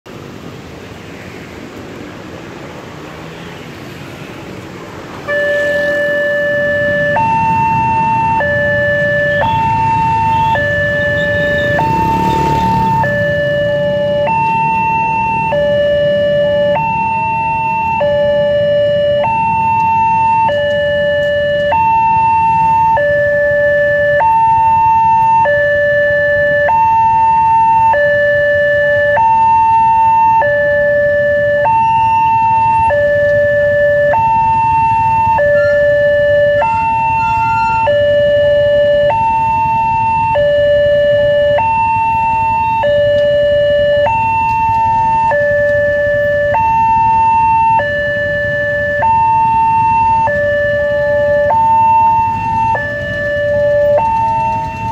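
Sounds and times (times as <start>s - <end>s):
two-tone crossing alarm: 5.2s - 54.9s.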